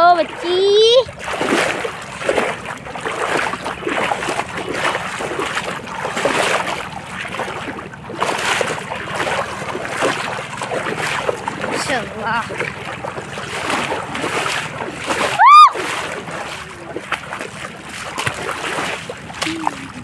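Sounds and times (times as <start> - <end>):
feet wading through shallows: 0.0 - 20.0
water splashing and sloshing: 0.0 - 20.0.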